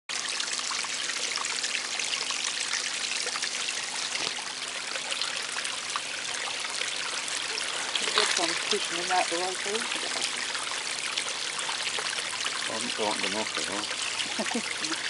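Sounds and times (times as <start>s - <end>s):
water trickling over stones: 0.1s - 15.0s
small water splashes: 0.4s - 15.0s.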